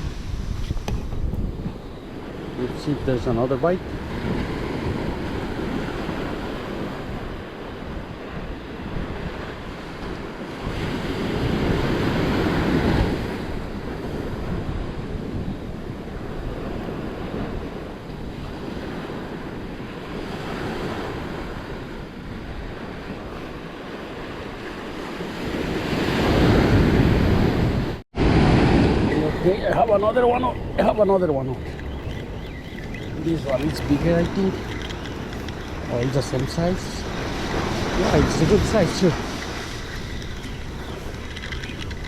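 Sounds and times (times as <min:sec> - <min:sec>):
sea waves washing in: 0:00.0 - 0:42.0
wind buffeting microphone: 0:00.0 - 0:42.0.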